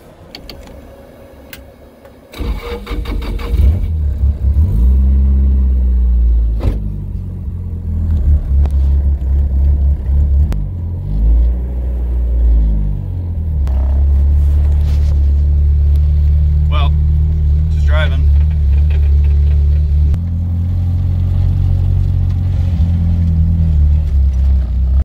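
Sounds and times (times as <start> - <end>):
car engine revving: 2.2 - 25.0.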